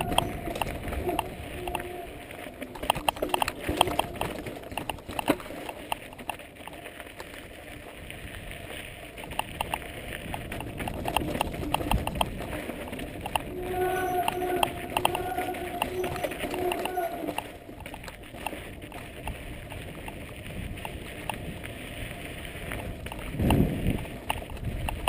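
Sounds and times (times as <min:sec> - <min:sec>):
wind buffeting microphone: 0:00.0 - 0:05.3, 0:08.0 - 0:25.0
mountain bike rattling over rocks: 0:00.0 - 0:25.0
sharp clicks and knocks from bike: 0:00.0 - 0:25.0.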